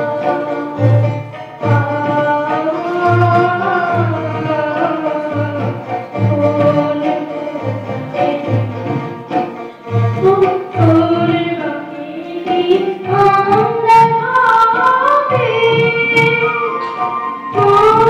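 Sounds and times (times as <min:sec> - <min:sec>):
boy singing into microphone: 0:00.0 - 0:18.0
harmonium: 0:00.0 - 0:18.0
tabla drum strokes: 0:00.0 - 0:18.0.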